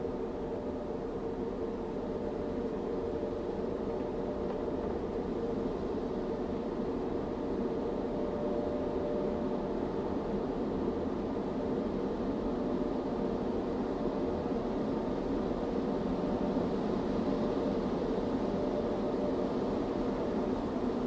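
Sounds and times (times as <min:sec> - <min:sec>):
muffled car wash hum: 0:00.0 - 0:21.0.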